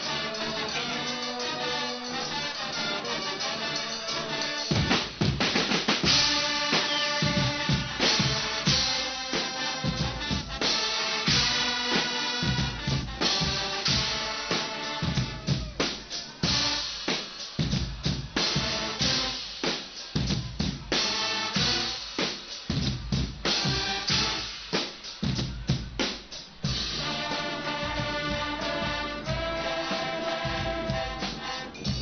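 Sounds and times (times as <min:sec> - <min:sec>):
bass drum and snare strokes: 0:00.0 - 0:32.0
brass band chords: 0:00.0 - 0:32.0.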